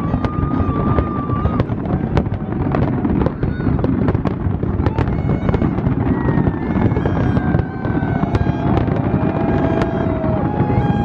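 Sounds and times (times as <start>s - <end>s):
fireworks rumbling bursts: 0.0s - 11.0s
sharp firework cracks: 0.0s - 11.0s.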